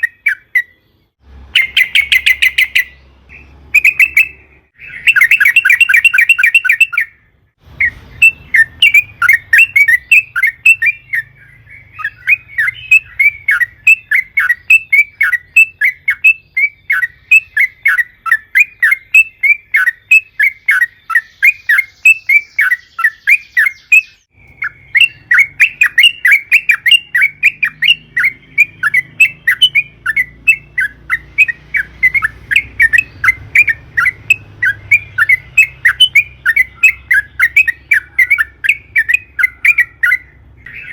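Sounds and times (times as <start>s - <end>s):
bulbul singing chattering notes: 0.0s - 40.9s.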